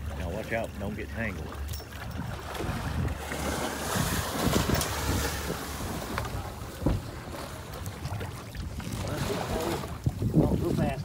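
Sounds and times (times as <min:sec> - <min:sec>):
wind buffeting microphone: 0:01.9 - 0:11.0.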